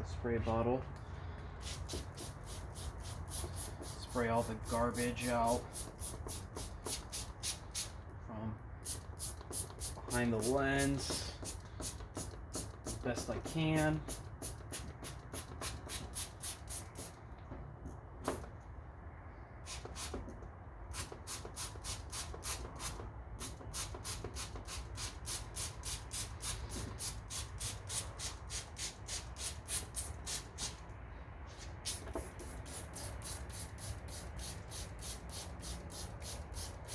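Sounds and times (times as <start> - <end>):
spray bottle hissing sprays: 1.6 - 8.0, 8.8 - 17.2, 20.9 - 30.8, 31.5 - 36.9.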